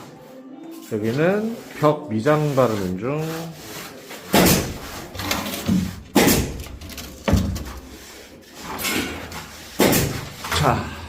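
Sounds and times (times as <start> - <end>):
trowel scraping plaster on wall: 0.8 - 10.9.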